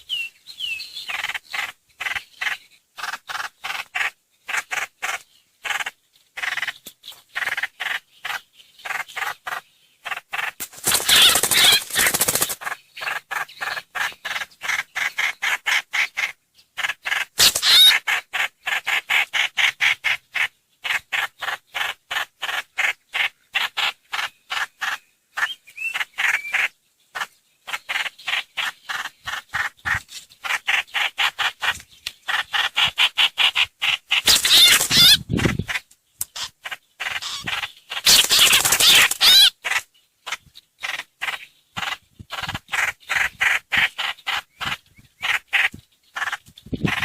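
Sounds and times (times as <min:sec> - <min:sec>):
bird chattering harshly: 0:01.1 - 0:47.0.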